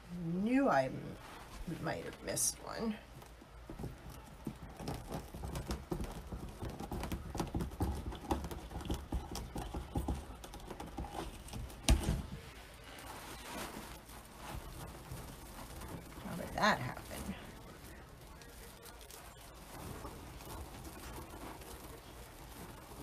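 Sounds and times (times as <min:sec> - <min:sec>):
hands rustling stiff mesh: 0:01.1 - 0:23.0.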